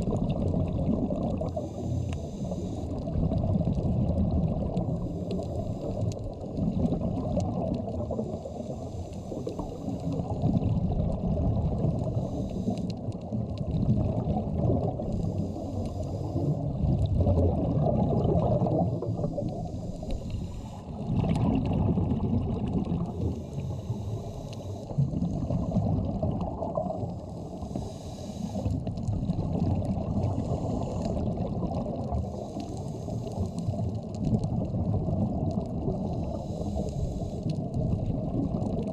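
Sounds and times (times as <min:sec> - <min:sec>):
scuba regulator breathing bubbles: 0:00.0 - 0:38.9
underwater rumble and gurgle: 0:00.0 - 0:38.9.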